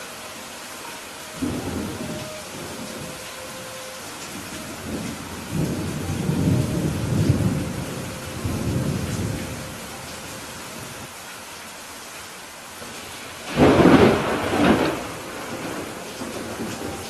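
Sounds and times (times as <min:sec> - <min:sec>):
steady rain falling: 0:00.0 - 0:17.0
low roll of thunder: 0:01.4 - 0:11.1, 0:13.0 - 0:17.0.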